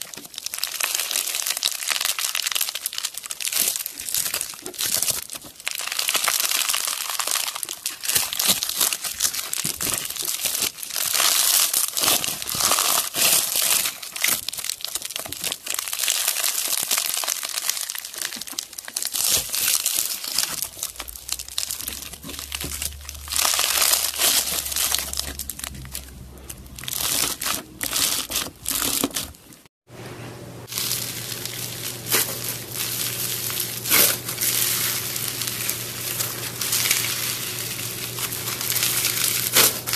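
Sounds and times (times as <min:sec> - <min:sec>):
crunchy slime crackling and popping: 0:00.0 - 0:29.7, 0:30.6 - 0:39.9.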